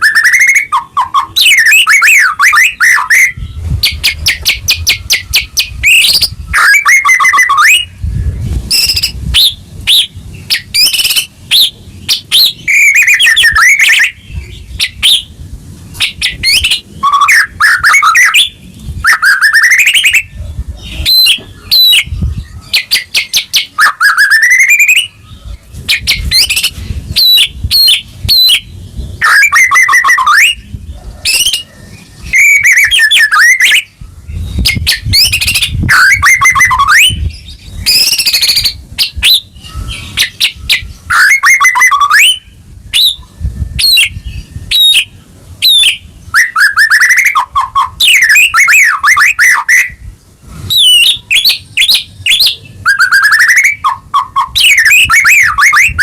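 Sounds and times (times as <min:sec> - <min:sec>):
bird singing whistled notes: 0:00.0 - 0:50.1, 0:50.7 - 0:56.0.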